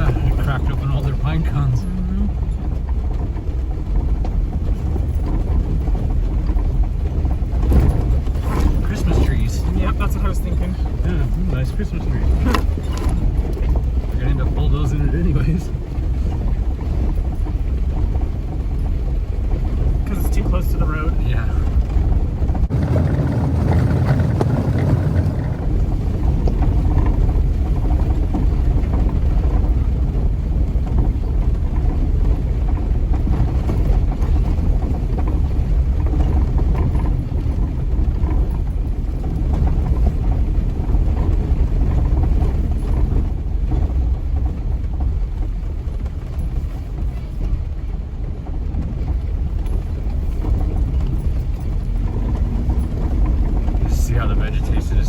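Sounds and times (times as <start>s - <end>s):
vehicle engine rumble on dirt: 0.0s - 55.0s.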